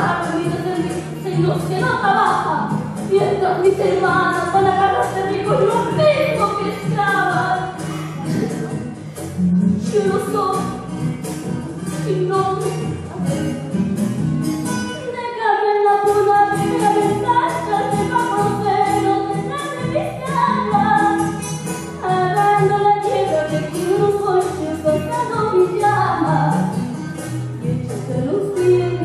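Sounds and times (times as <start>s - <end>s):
girl singing into microphone: 0.0s - 8.8s, 9.8s - 10.8s, 11.9s - 13.4s, 14.9s - 26.8s, 28.1s - 29.0s
rhythmic latin instrumental backing: 0.0s - 29.0s.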